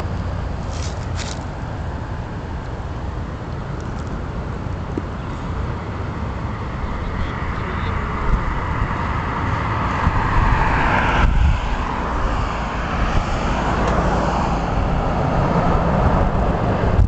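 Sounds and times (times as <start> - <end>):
passing vehicles: 0.0 - 17.0
steady low traffic rumble: 0.0 - 17.0.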